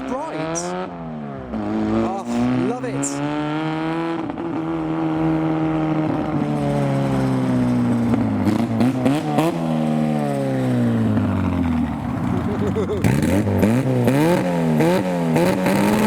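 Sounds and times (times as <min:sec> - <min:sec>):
car engine pulling away: 0:00.0 - 0:16.0.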